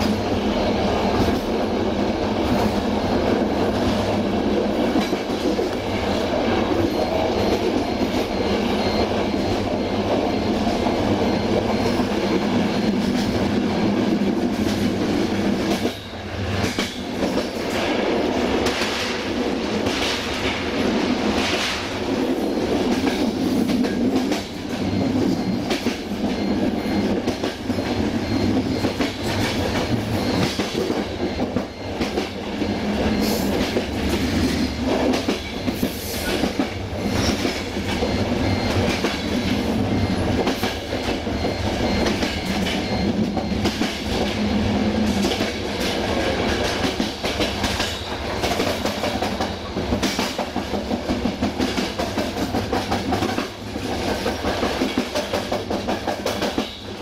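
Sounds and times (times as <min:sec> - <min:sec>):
train rumbling at speed: 0:00.0 - 0:57.0.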